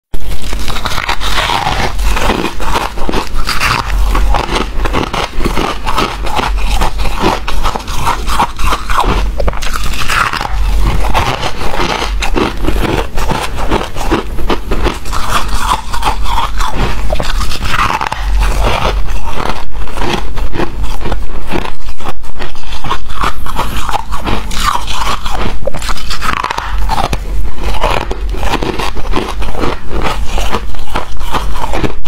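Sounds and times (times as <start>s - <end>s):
crunching frost: 0.2s - 32.0s.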